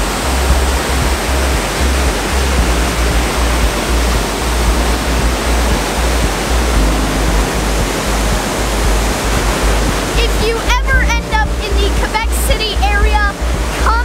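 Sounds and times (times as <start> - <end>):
low rumble pulsing: 0.0 - 14.0
waterfall rushing: 0.0 - 14.0.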